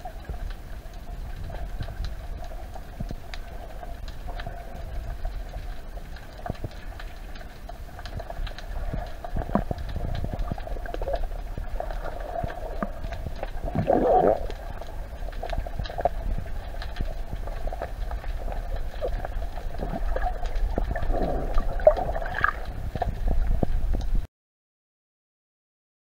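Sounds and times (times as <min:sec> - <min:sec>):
underwater rumble and hum: 0:00.0 - 0:24.3.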